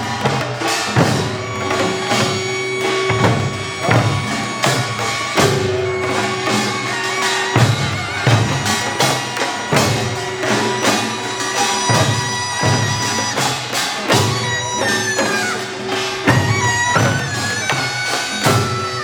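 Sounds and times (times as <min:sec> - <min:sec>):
drum strikes: 0:00.0 - 0:19.0.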